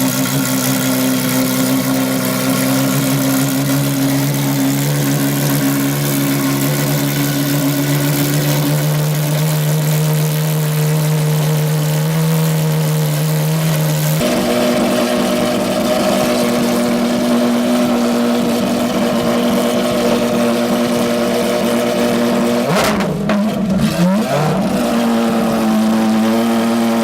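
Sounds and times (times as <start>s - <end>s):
sports car engine running: 0.0s - 27.0s.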